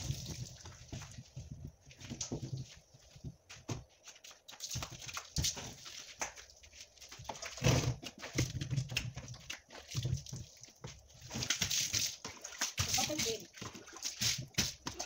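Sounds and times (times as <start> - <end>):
water splashing from jug: 0.0 - 2.8, 4.5 - 15.0.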